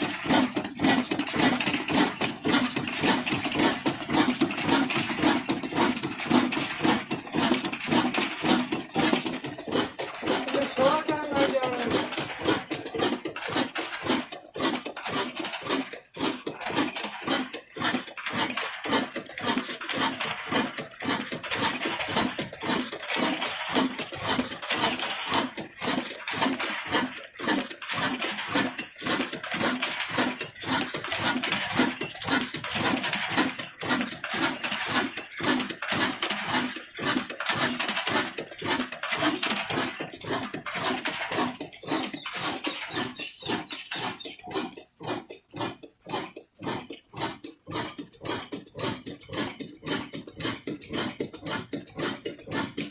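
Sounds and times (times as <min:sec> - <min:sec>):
grinding mill clatter: 0:00.0 - 0:52.9.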